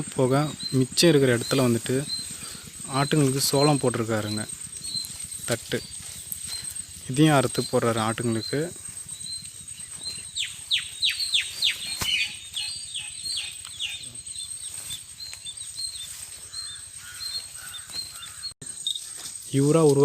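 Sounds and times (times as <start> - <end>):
high-pitched insect-like whine: 0.2 - 19.9.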